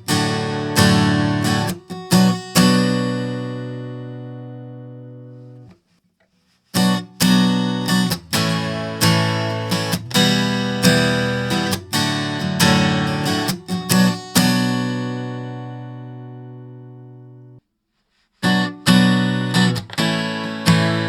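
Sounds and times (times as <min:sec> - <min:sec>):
acoustic guitar strumming: 0:00.0 - 0:05.7, 0:06.8 - 0:17.6, 0:18.4 - 0:21.0.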